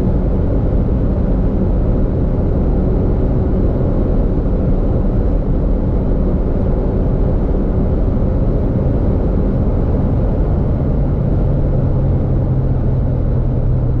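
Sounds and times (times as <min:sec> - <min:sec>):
low engine drone: 0:00.0 - 0:14.0
road and wind rumble: 0:00.0 - 0:14.0.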